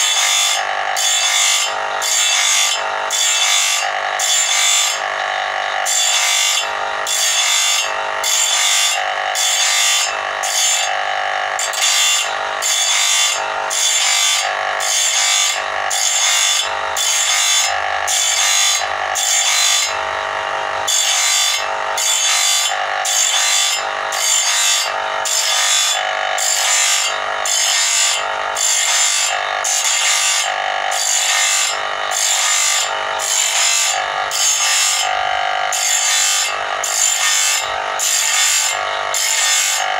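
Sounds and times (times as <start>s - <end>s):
grinder motor hum: 0.0s - 39.9s
grinder wheel grinding saw teeth: 0.0s - 39.9s.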